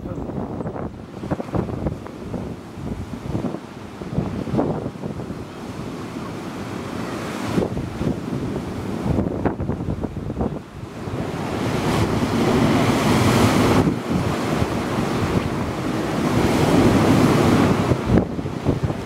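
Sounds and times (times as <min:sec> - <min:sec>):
heavy waves breaking on sea wall: 0:00.0 - 0:19.0
wind buffeting microphone: 0:00.0 - 0:19.0.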